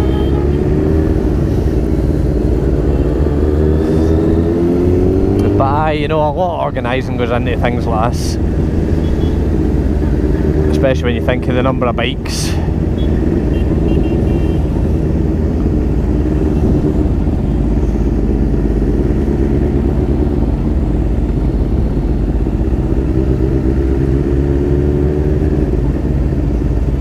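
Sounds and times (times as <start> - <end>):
motorcycle engine droning: 0.0 - 27.0.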